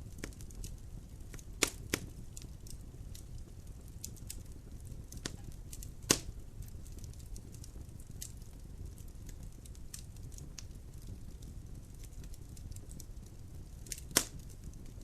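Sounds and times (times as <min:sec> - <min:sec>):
logs crackling and popping: 0:00.0 - 0:15.0.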